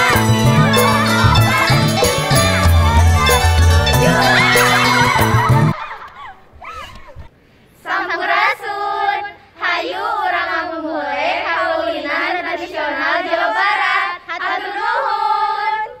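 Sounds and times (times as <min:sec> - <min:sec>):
girls singing in unison: 0:00.0 - 0:05.7, 0:07.8 - 0:16.0.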